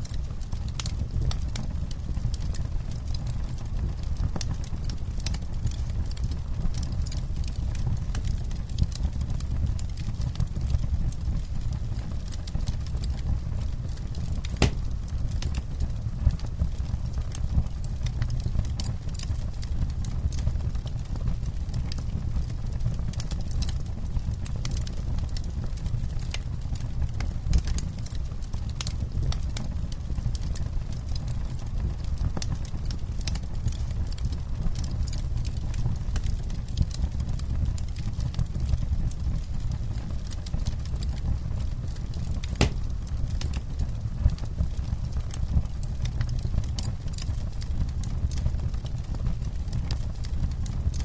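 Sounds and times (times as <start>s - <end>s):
campfire crackling and popping: 0.0s - 51.0s
low steady fire rumble: 0.0s - 51.0s.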